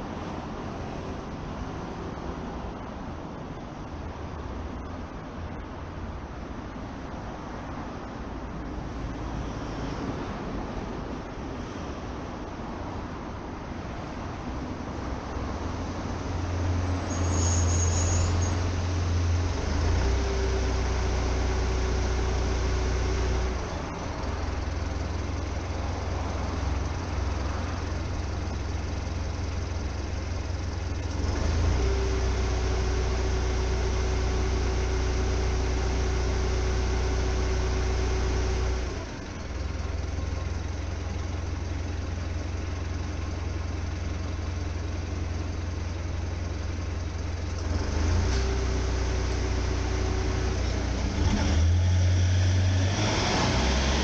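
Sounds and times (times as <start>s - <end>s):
vehicle engine humming: 0.0s - 54.0s.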